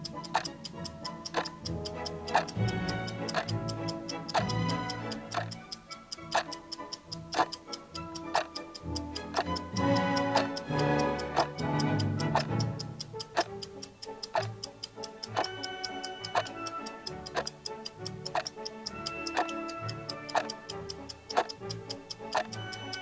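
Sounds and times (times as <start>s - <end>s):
background music with sustained notes: 0.0s - 23.0s
clock ticking: 0.0s - 23.0s.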